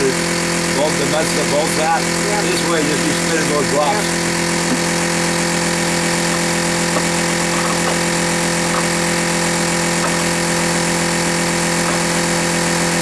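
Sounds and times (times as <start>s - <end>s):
motor droning steadily: 0.0s - 13.0s.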